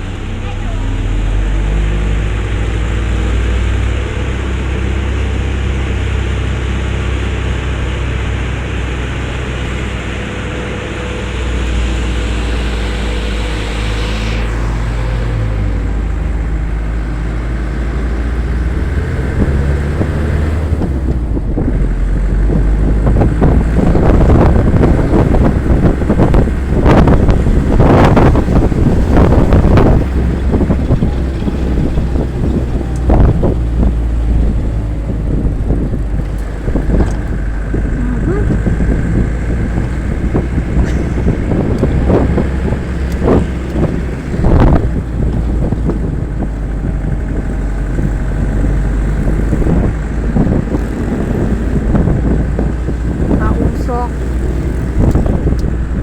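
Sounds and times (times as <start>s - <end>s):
vehicle engine running: 0.0s - 56.0s
wind buffeting microphone: 0.0s - 56.0s.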